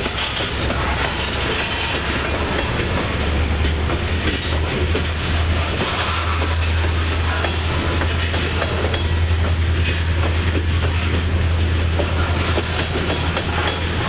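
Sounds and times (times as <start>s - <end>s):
train low rumble: 0.0s - 14.0s
wheels clicking over rail joints: 0.0s - 14.0s.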